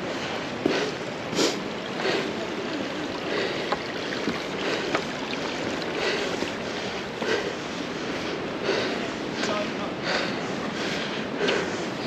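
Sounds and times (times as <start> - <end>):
flowing water rushing: 0.1 - 11.3.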